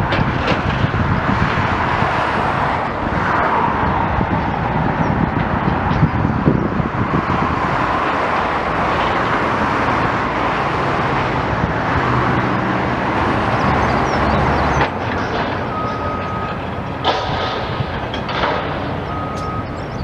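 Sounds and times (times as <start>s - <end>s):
engine and traffic noise: 0.0s - 20.0s
low engine hum: 0.0s - 20.0s.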